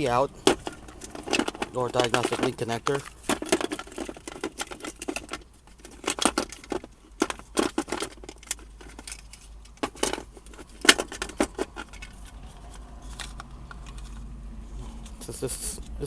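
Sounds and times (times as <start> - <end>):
plastic connector clicks and rattles: 0.4 - 14.2.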